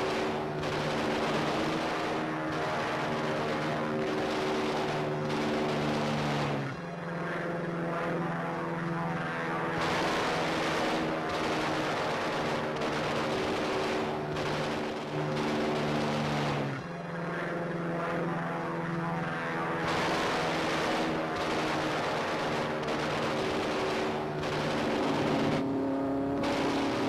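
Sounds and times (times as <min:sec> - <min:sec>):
propeller aircraft engine drone: 0:00.0 - 0:27.0.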